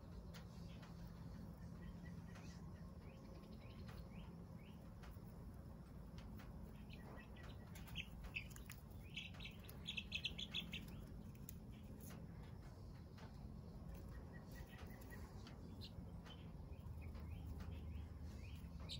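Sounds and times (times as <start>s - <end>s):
chicks chirping softly: 0.0s - 18.9s.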